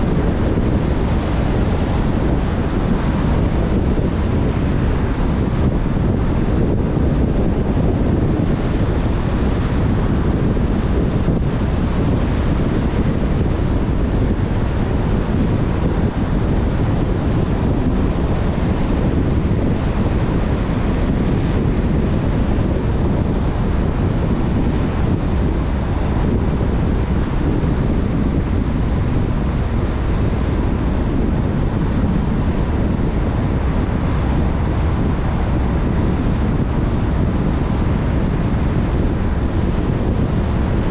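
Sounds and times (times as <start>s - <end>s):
low road rumble: 0.0s - 40.9s
wind buffeting microphone: 0.0s - 40.9s.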